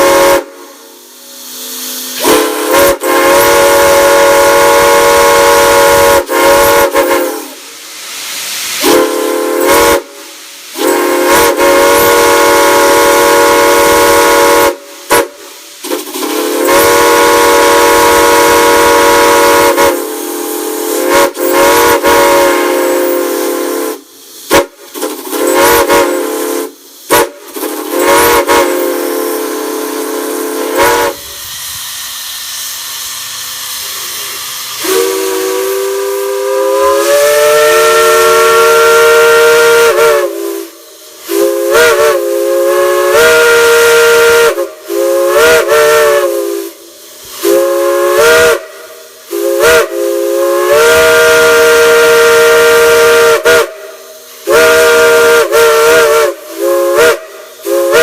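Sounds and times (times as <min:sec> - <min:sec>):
steam whistle chord: 0:00.0 - 0:07.9, 0:08.8 - 0:15.6, 0:16.3 - 0:24.8, 0:25.4 - 0:58.0
escaping steam hiss: 0:00.0 - 0:58.0.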